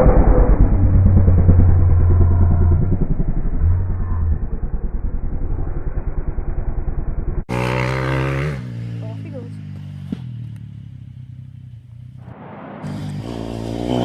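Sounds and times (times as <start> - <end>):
dirt bike engine running: 0.3 - 12.2, 12.8 - 14.0.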